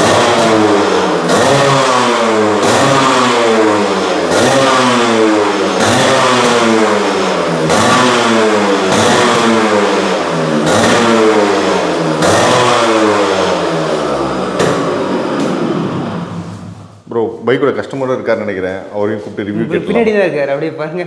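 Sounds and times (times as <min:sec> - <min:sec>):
motorcycle engine revving: 0:00.0 - 0:17.0
exhaust crackle: 0:00.0 - 0:17.1.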